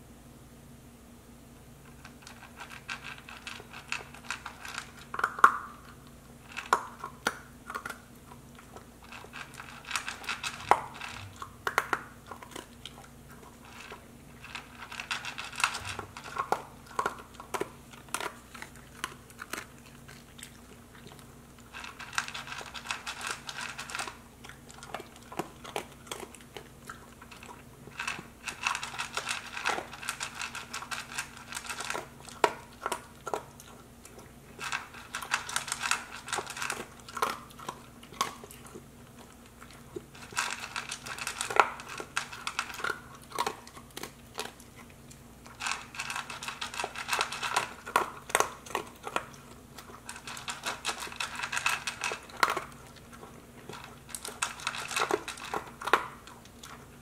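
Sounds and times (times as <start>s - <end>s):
dog crunching dry kibble: 1.8s - 57.0s.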